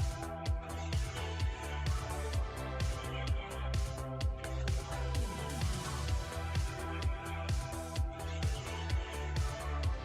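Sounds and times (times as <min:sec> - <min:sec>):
electronic music: 0:00.0 - 0:10.0
kick drum: 0:00.0 - 0:10.0.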